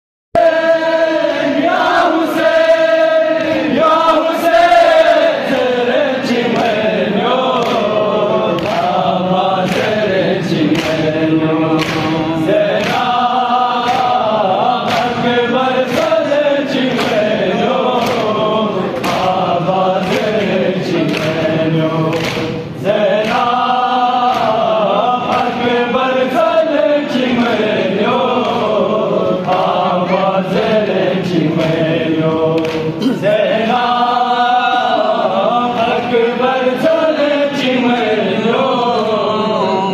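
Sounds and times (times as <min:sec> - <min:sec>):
men chanting in unison: 0:00.4 - 0:39.9.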